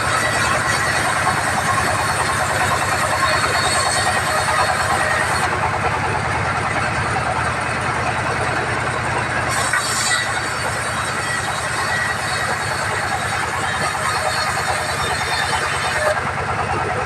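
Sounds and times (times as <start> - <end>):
bandsaw machinery running: 0.0 - 17.0.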